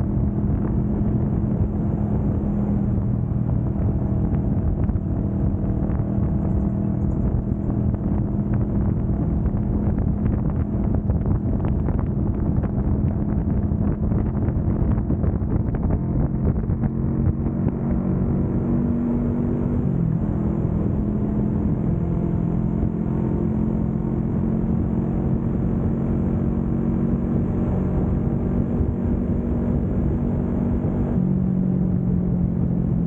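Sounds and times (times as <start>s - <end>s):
motorcycle engine cruising: 0.0s - 33.0s
wind and road rush: 0.0s - 33.0s.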